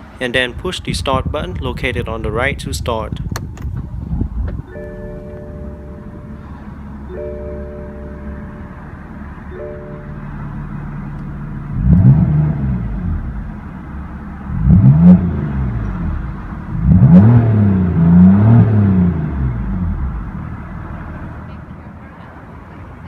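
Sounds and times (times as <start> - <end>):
car engine idling and revving: 3.2 - 22.2.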